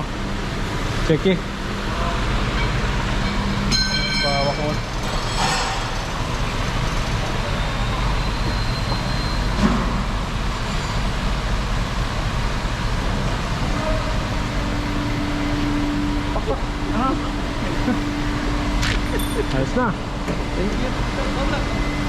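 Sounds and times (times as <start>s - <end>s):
steady tone: 0.0s - 9.6s, 12.0s - 22.0s
low mechanical hum: 0.0s - 22.0s.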